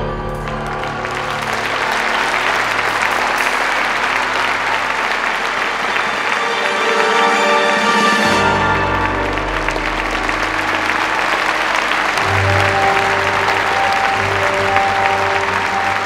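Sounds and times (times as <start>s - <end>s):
background music: 0.0s - 16.0s
large crowd applauding: 0.0s - 16.0s.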